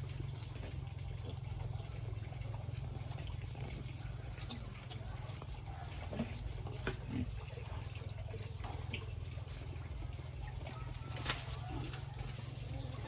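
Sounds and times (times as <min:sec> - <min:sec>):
pigs grunting: 0:00.0 - 0:13.0
thin steady high tone: 0:00.0 - 0:13.0.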